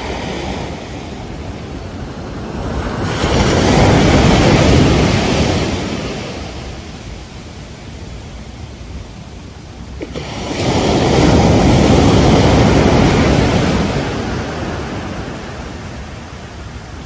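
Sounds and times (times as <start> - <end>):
ocean waves crashing: 0.0 - 17.0.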